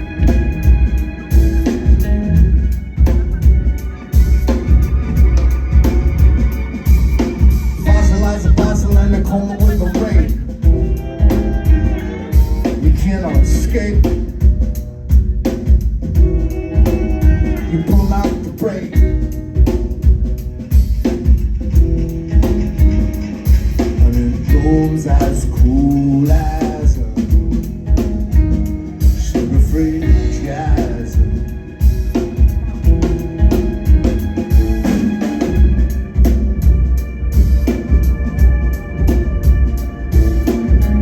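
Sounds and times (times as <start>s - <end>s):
deep bass: 0.0s - 41.0s
drum kit beat: 0.0s - 41.0s
live band playing instrumental: 0.0s - 41.0s
organ-like keyboard chords: 0.0s - 41.0s.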